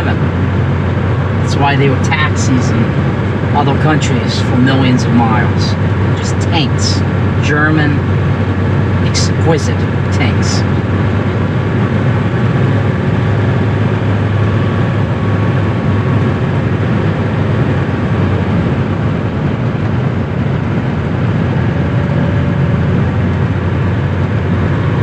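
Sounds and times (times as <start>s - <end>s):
diesel engine drone: 0.0s - 25.0s
road noise: 0.0s - 25.0s.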